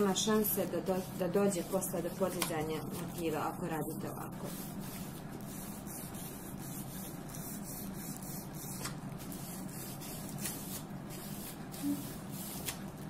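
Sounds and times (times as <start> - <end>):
plastic bag rubbing on paper: 0.0 - 13.0
steady low hum: 0.0 - 13.0.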